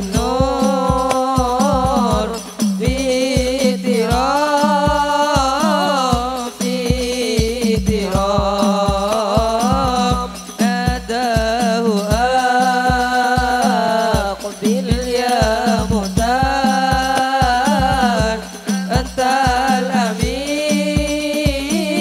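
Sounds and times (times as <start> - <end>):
frame drums beating: 0.0 - 22.0
man singing into a microphone: 0.0 - 22.0.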